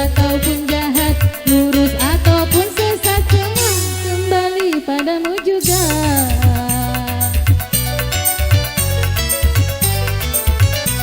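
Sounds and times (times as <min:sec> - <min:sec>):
ornamented melody over bass and drums: 0:00.0 - 0:11.0.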